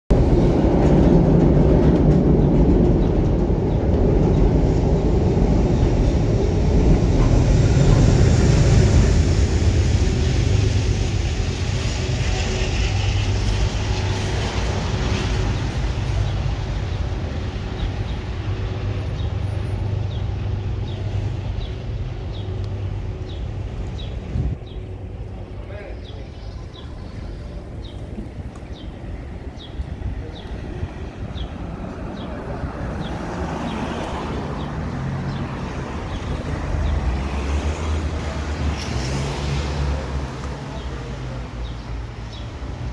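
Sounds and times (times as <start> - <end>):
train wheels rumbling on rails: 0.1 - 42.9.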